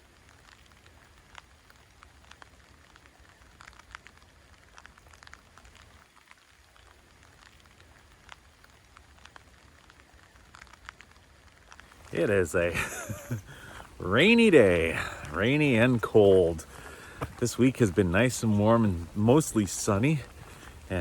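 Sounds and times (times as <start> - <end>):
light rain pattering: 0.0 - 21.0
water dripping: 0.0 - 21.0.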